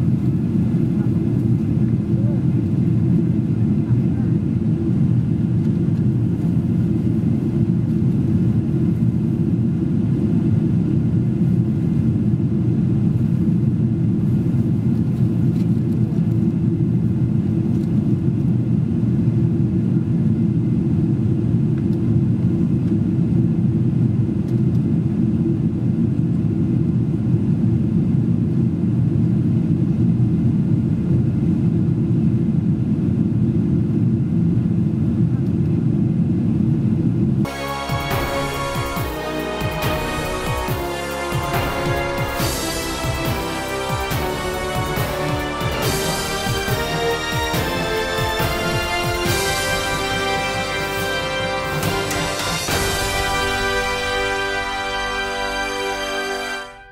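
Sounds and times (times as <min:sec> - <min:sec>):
airliner cabin rumble: 0:00.0 - 0:50.6.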